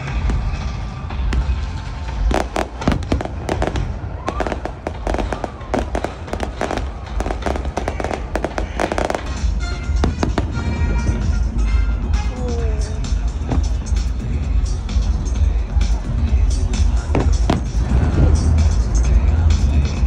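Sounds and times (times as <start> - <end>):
fireworks bangs and crackles: 0.0 - 12.3, 13.0 - 15.1, 15.9 - 20.0
music: 0.0 - 20.0.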